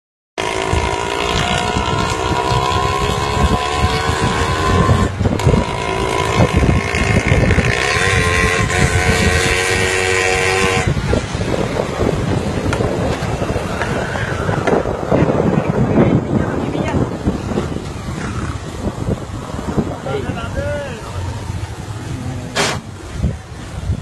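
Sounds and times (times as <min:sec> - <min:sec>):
engine whine: 0:00.4 - 0:23.7
vehicle rumble: 0:00.4 - 0:24.0.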